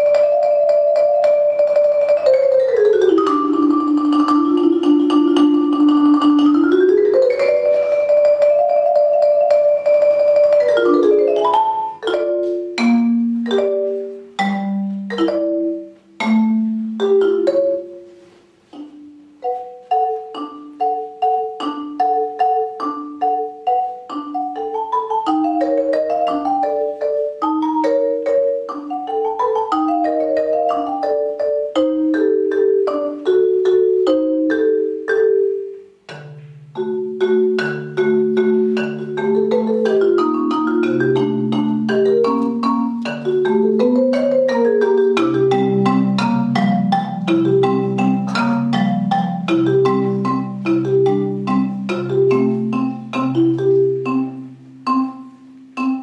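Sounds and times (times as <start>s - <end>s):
solo marimba: 0.0s - 56.0s.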